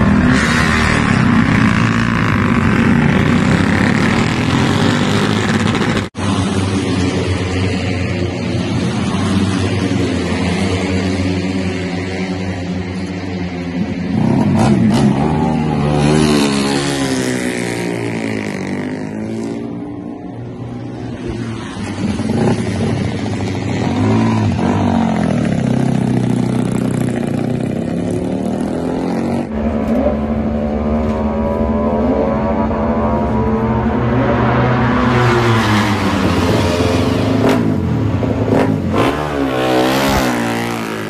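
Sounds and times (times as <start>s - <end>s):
racing motorcycle engines revving: 0.0s - 41.0s.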